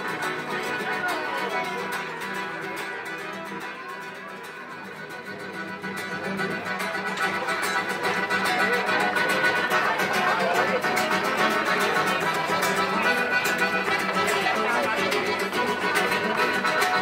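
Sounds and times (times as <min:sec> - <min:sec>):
acoustic guitars strummed: 0:00.0 - 0:17.0.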